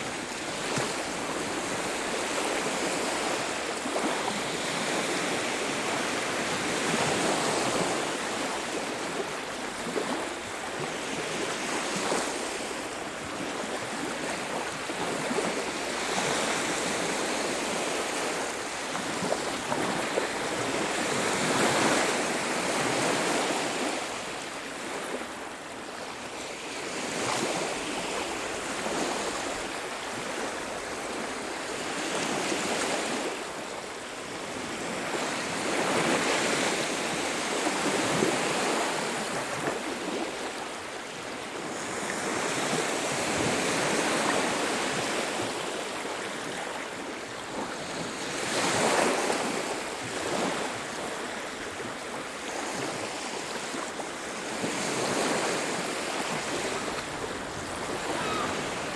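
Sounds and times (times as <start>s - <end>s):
waves breaking on beach: 0.0s - 58.9s.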